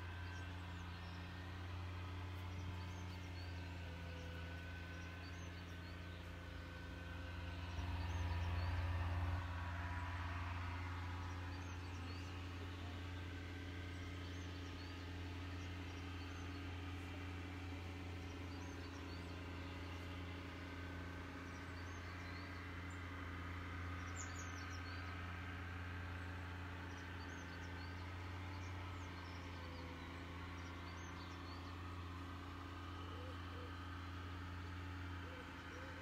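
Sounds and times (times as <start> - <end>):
faint hum tones: 0.0 - 36.0
low mechanical drone: 0.0 - 36.0
small birds chirping: 0.0 - 36.0.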